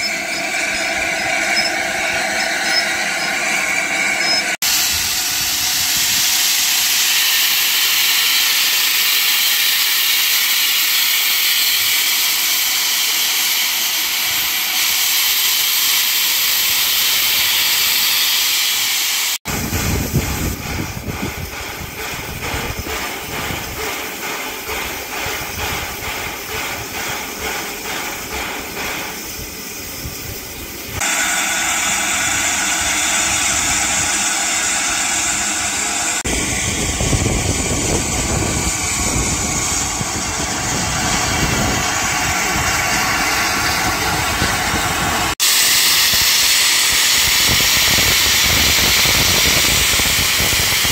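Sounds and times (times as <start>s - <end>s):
steam hissing loudly: 0.0s - 50.9s.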